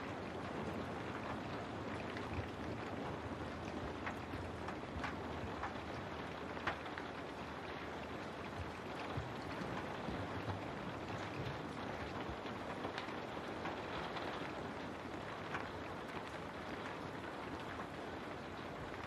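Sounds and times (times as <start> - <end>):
raindrops tapping: 0.0 - 19.0
steady rain: 0.0 - 19.0.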